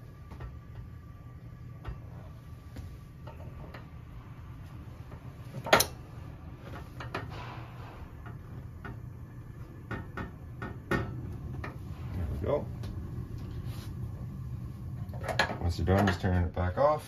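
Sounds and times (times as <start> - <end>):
low steady hum: 0.0 - 17.0
soft gas rush: 0.0 - 17.0.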